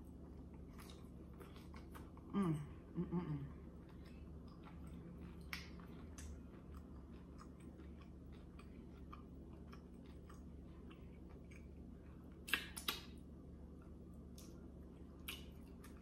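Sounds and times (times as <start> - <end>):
person chewing crunchy taco: 0.0 - 2.3, 3.6 - 16.0.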